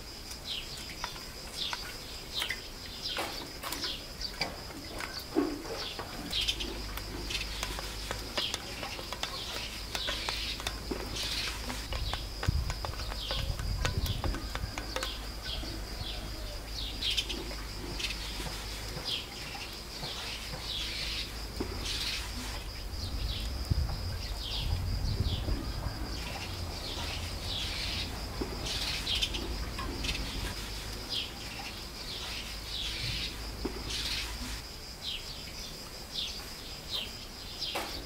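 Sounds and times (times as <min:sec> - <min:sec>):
small birds chirping: 0:00.2 - 0:38.0.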